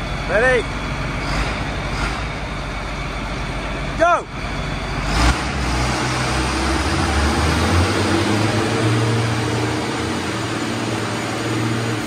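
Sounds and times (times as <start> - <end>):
tractor engines working under load: 0.0 - 12.0.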